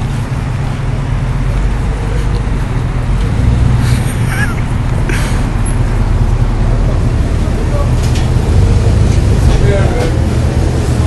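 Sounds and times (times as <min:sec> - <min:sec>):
school bus engine idling: 0:00.0 - 0:11.0.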